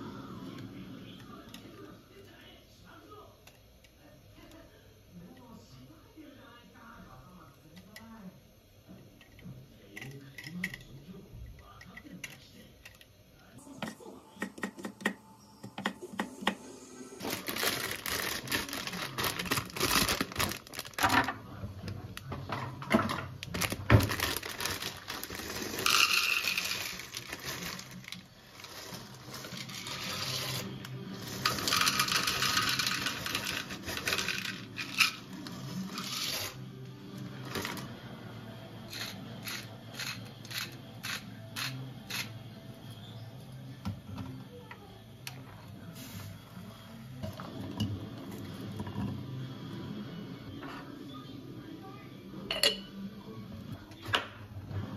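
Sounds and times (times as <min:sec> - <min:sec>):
soft background music: 0:00.0 - 0:02.7, 0:13.5 - 0:54.9.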